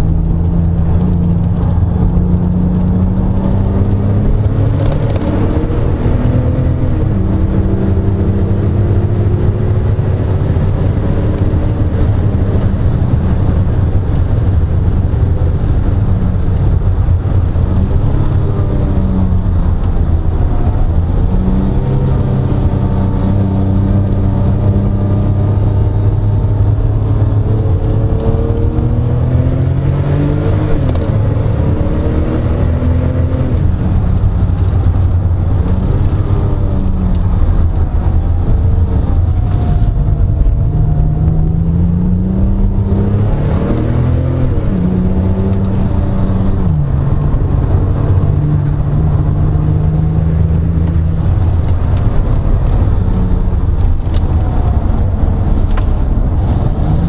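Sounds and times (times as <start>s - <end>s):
car engine revving from cabin: 0.1s - 14.6s, 17.2s - 57.0s.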